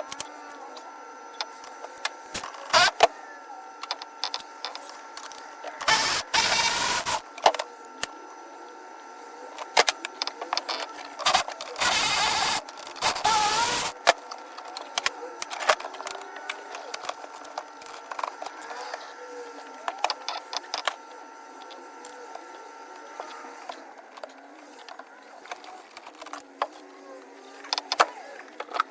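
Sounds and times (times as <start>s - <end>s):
cordless driver whirring: 0.0s - 28.9s.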